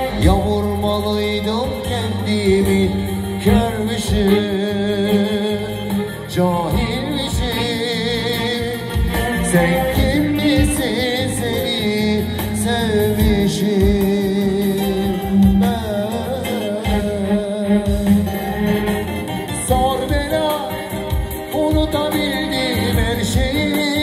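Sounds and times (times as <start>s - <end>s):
electronic keyboards with steady beat: 0.0s - 24.0s.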